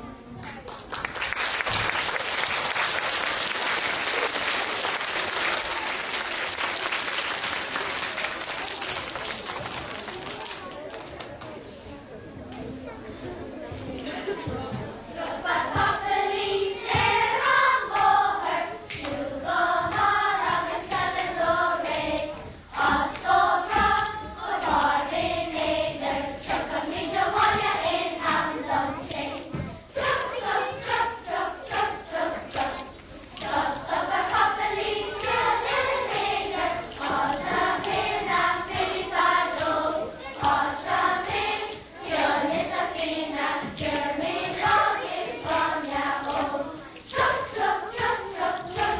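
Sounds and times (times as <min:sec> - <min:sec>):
hand claps: 0:00.4 - 0:11.6, 0:17.8 - 0:19.2, 0:19.8 - 0:21.2, 0:21.8 - 0:24.9, 0:25.5 - 0:26.7, 0:27.3 - 0:27.6, 0:28.2 - 0:48.9
children's choir singing: 0:01.2 - 0:10.6, 0:12.7 - 0:48.9.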